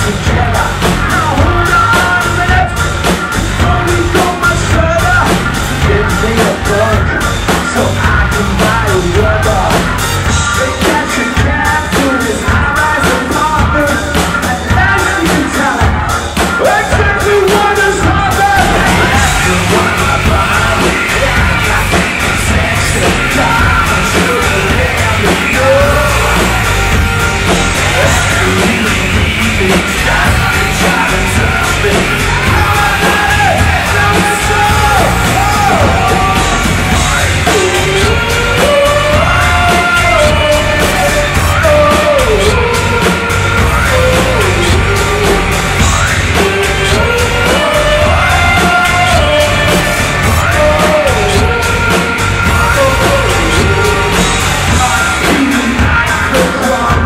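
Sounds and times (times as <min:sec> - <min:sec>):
driving drum beat: 0:00.0 - 0:57.0
live rock band playing: 0:00.0 - 0:57.0
yelled vocals: 0:00.0 - 0:57.0.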